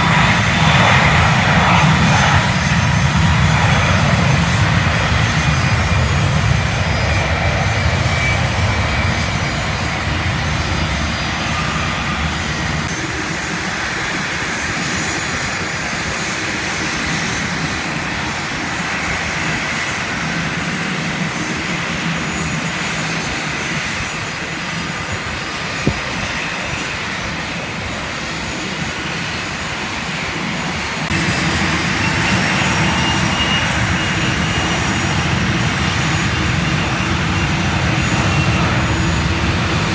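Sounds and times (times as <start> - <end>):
jet engines taxiing: 0.0 - 39.9.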